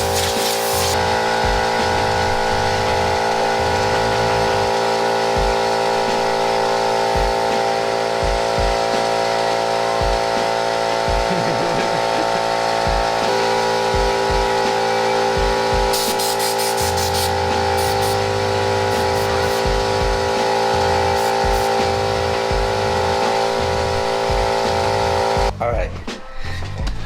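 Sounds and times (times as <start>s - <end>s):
air compressor running: 0.0s - 25.6s
background music with bass: 0.0s - 27.0s.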